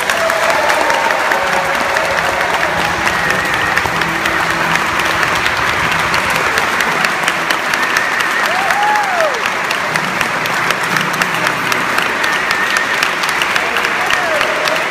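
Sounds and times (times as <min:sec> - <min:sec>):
audience applauding: 0:00.0 - 0:14.9
high call from crowd: 0:00.0 - 0:14.9.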